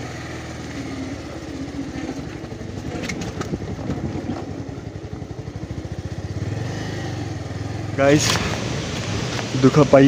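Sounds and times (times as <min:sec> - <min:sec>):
motorcycle engine running at low speed: 0:00.0 - 0:10.0.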